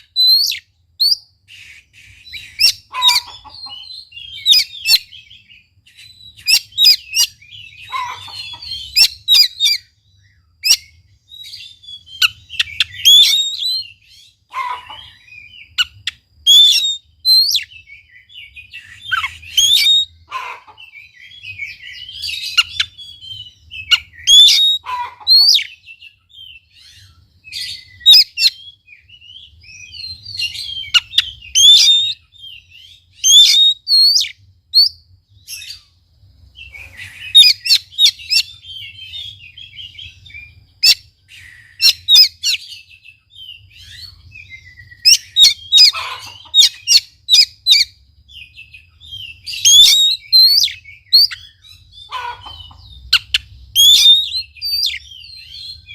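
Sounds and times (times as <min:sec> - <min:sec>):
bird singing loud whistles: 0:00.0 - 0:20.4, 0:21.1 - 0:35.8, 0:36.6 - 0:52.3, 0:53.0 - 0:55.9.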